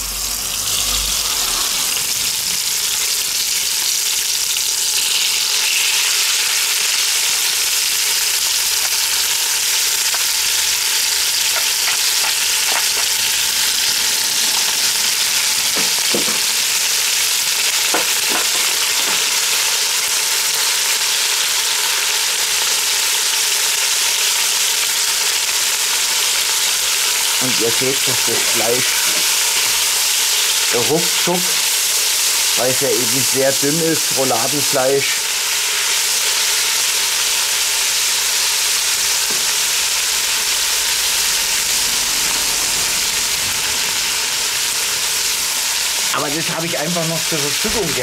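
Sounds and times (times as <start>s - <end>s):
meat sizzling in a pot: 0.0s - 48.0s.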